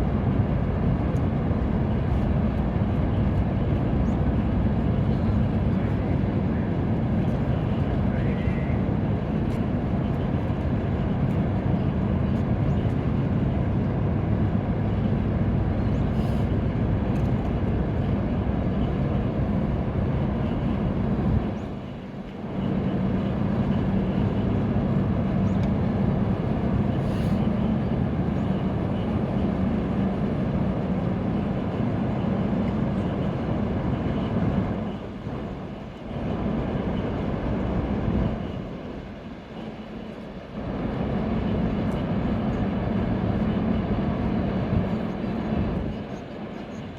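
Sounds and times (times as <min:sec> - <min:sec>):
ferry engine rumble: 0:00.0 - 0:46.9.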